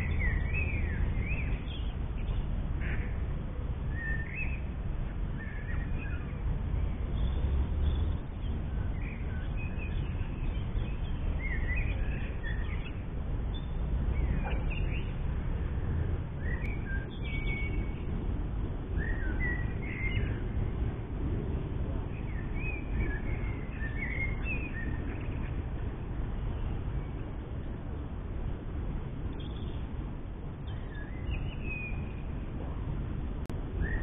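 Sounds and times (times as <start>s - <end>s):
small birds chirping: 0.0s - 3.2s, 3.9s - 18.2s, 18.9s - 20.6s, 21.3s - 25.8s, 29.2s - 33.0s
steady low rumble: 0.0s - 34.0s.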